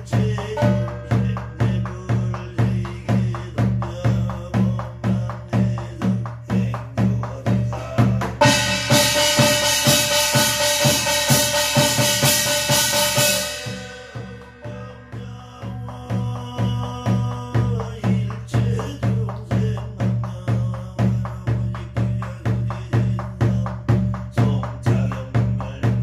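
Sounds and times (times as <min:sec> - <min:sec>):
barrel drum beating: 0:00.0 - 0:26.0.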